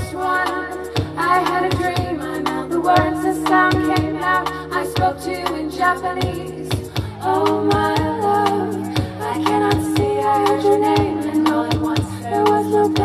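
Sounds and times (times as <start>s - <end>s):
steady drum beat: 0.0s - 13.0s
women singing in harmony: 0.0s - 13.0s.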